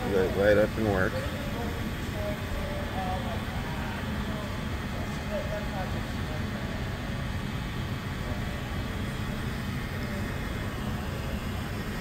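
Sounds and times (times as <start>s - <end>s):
exhibition hall background hum and hiss: 0.0s - 12.0s.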